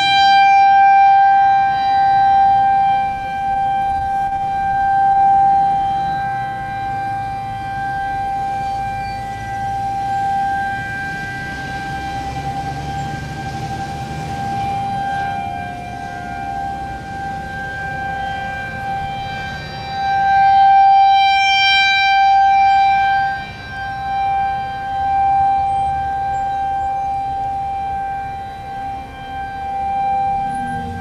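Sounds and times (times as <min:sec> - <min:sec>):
rotating warning siren steady tone: 0:00.0 - 0:31.0.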